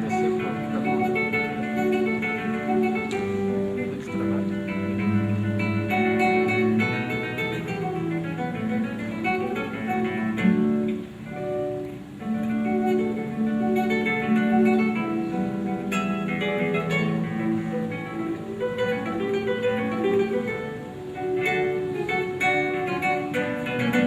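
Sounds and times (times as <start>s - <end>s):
fingerpicked acoustic guitar: 0.0s - 24.0s.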